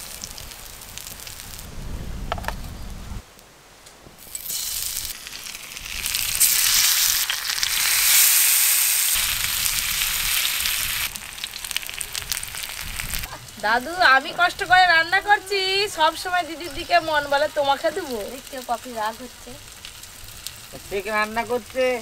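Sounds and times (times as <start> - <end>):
oil sizzling: 0.0 - 1.7, 4.2 - 22.0.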